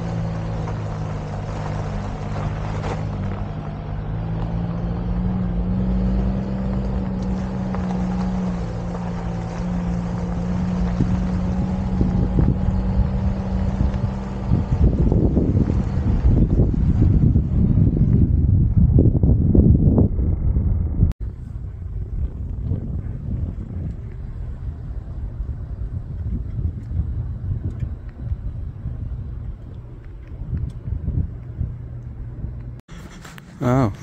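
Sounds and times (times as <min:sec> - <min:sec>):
wind buffeting microphone: 0:00.0 - 0:32.8
tyres on gravel road: 0:00.0 - 0:34.0
van engine running: 0:00.0 - 0:34.0.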